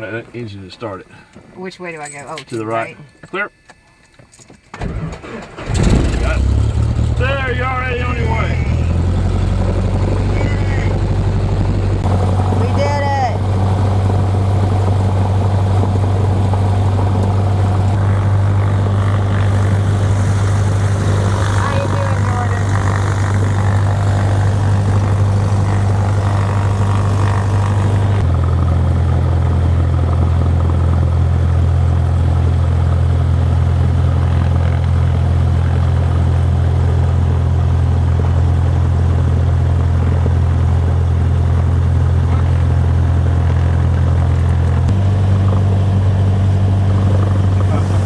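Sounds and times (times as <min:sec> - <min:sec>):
propeller airplane engine droning: 0:00.0 - 0:48.0.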